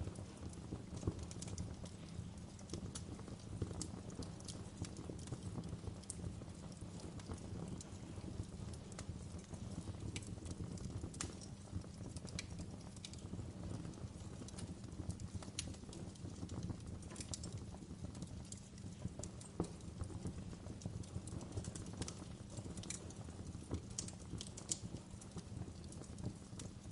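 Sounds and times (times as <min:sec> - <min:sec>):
fireplace crackling: 0:00.0 - 0:26.9.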